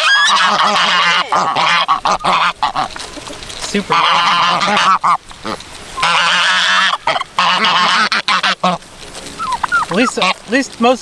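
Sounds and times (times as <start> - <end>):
geese honking: 0.0 - 10.6.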